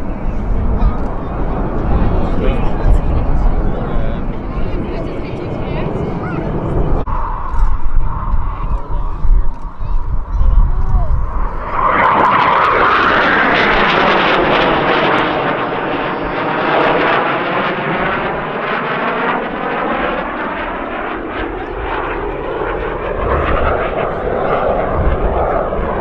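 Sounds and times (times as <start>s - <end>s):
jet flying past: 0.0s - 26.0s.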